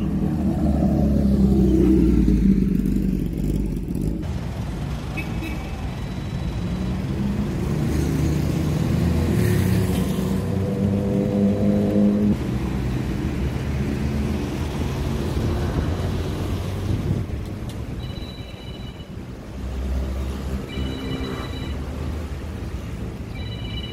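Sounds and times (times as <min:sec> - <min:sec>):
low traffic rumble: 0:00.0 - 0:23.9.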